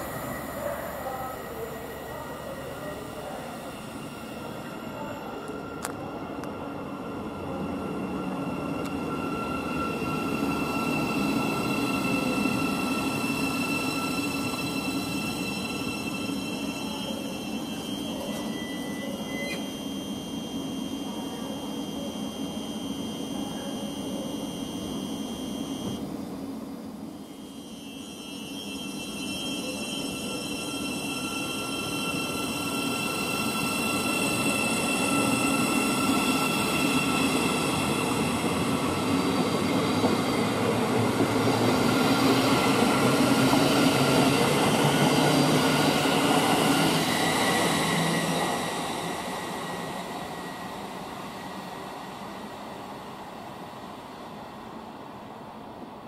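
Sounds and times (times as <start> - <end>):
electric train whine: 0.0 - 56.0.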